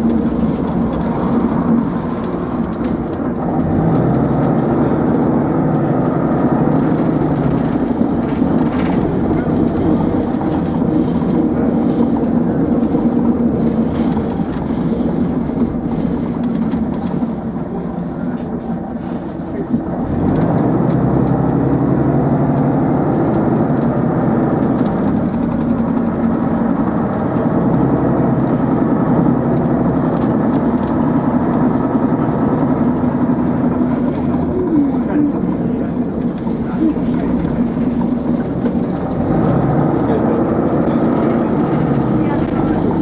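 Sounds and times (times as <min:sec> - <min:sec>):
bus engine running: 0:00.0 - 0:43.0.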